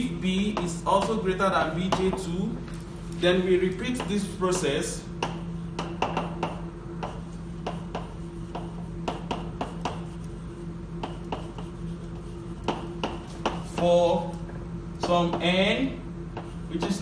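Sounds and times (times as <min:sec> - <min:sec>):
chalk tapping and scraping: 0:00.3 - 0:02.4, 0:03.2 - 0:14.2, 0:16.3 - 0:17.0.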